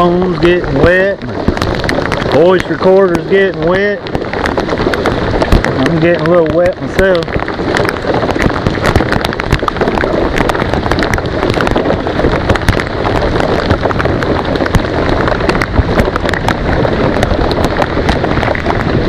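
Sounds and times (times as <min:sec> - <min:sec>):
heavy rain on water: 0:00.0 - 0:19.0
sharp raindrop impacts: 0:00.0 - 0:19.0.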